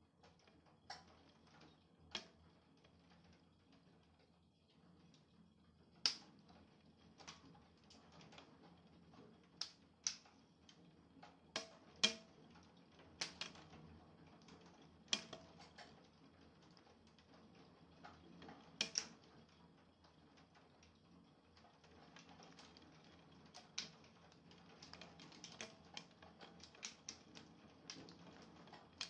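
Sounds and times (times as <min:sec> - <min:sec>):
raindrops tapping on hard surface: 0:00.2 - 0:29.0.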